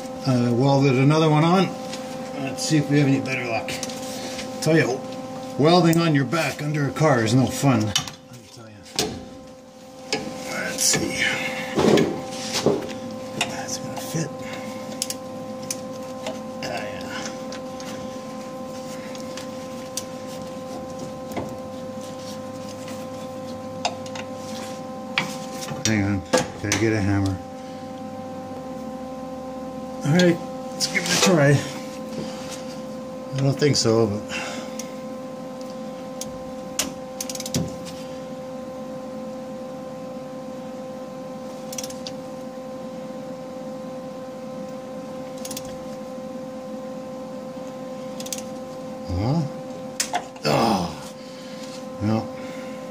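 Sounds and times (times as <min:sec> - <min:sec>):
mechanical hum: 0:00.0 - 0:52.9.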